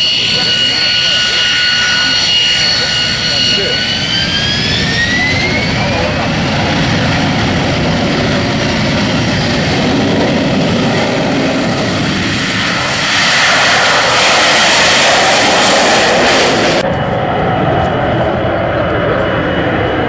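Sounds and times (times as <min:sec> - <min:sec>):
jet aircraft engine roar: 0:00.0 - 0:20.0.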